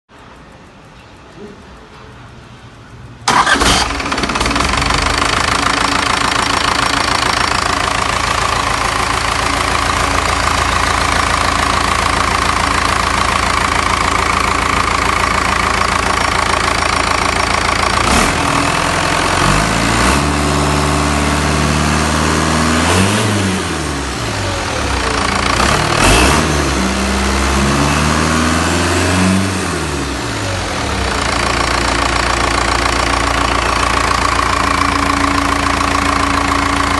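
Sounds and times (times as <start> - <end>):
diesel engine idling and revving: 2.7 - 36.9.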